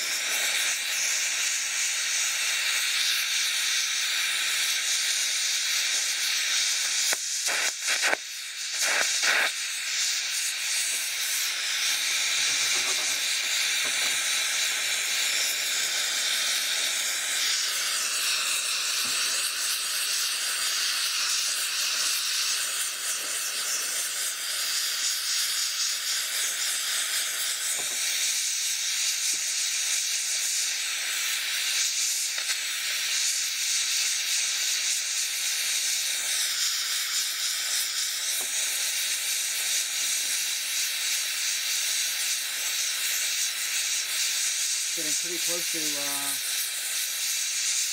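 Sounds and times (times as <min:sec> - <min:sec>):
torch flame hissing: 0:00.0 - 0:47.9.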